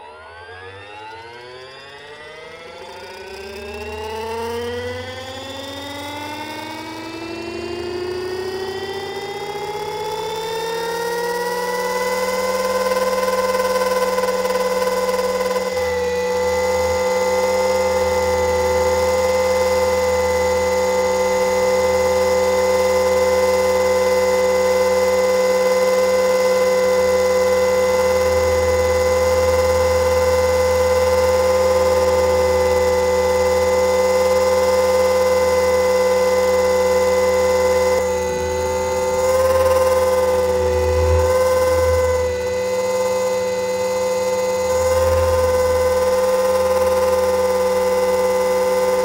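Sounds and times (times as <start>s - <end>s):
helicopter motor and rotor whine: 0.0s - 49.0s.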